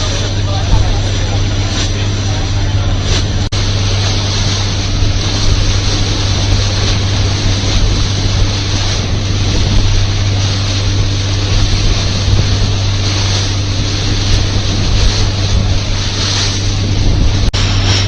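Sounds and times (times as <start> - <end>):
boat engine droning: 0.0 - 18.0
wind and water rushing: 0.0 - 18.0.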